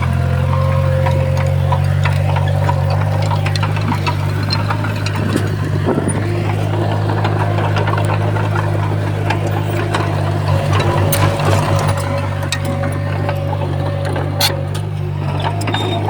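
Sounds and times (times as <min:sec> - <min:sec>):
bulldozer diesel engine running: 0:00.0 - 0:16.0
sharp clicks and knocks: 0:00.0 - 0:16.0.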